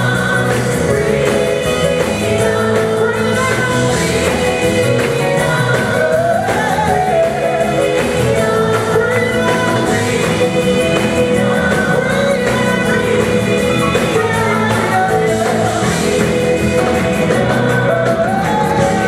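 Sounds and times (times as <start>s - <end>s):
backing vocalists: 0.0s - 19.0s
bass guitar: 0.0s - 19.0s
drums: 0.0s - 19.0s
keyboards: 0.0s - 19.0s
lead singer: 0.0s - 19.0s.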